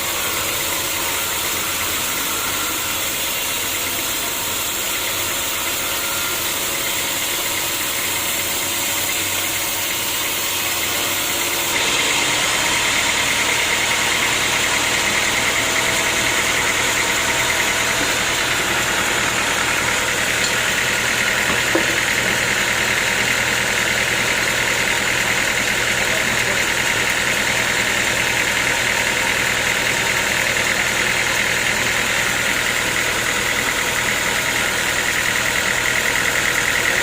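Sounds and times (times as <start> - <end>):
sawmill machinery drone: 0.0 - 37.0.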